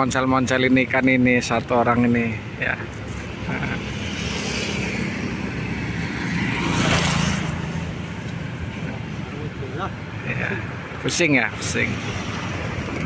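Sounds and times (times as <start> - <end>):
tyre and road noise: 0.0 - 13.0
vehicle engine hum: 0.3 - 13.0.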